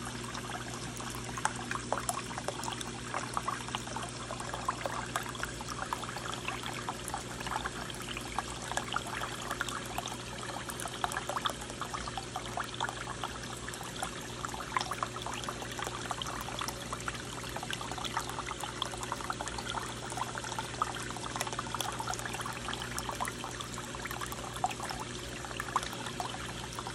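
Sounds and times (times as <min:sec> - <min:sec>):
low steady hum: 0:00.0 - 0:26.9
trickle of falling water: 0:00.0 - 0:26.9.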